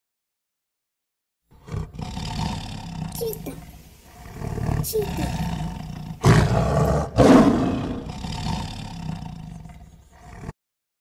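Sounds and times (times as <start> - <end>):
cheetah snarling and growling: 1.5 - 10.6.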